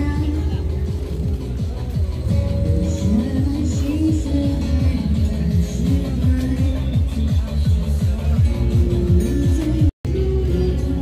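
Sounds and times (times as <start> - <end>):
music with heavy bass and sliding tones: 0.0 - 11.0.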